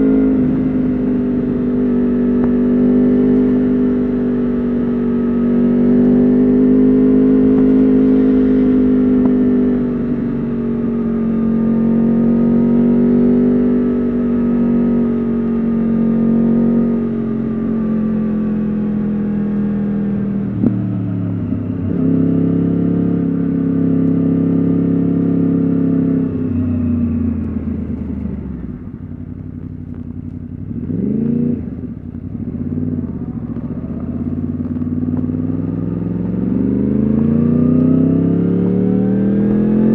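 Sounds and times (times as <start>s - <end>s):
motorcycle engine high-revving: 0.0s - 39.9s.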